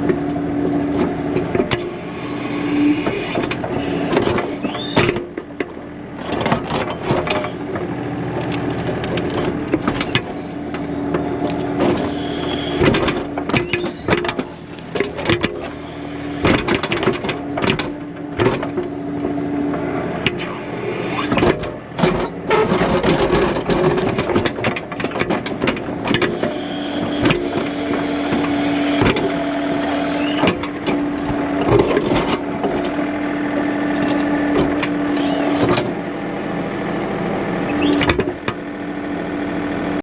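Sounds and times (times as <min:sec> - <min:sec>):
tractor diesel engine whining: 0:00.0 - 0:40.0.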